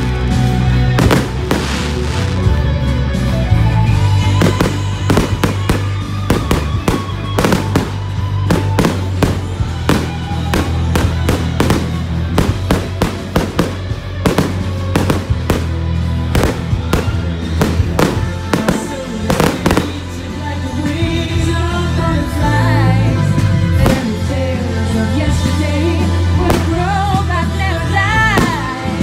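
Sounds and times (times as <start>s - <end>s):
fireworks bangs and crackles: 0.0s - 21.3s, 23.7s - 24.3s, 26.2s - 29.0s
background music with bass: 0.0s - 29.0s.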